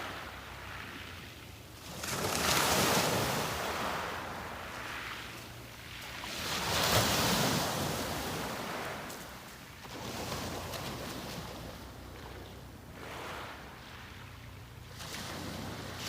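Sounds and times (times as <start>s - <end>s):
sea waves breaking on beach: 0.0s - 16.0s.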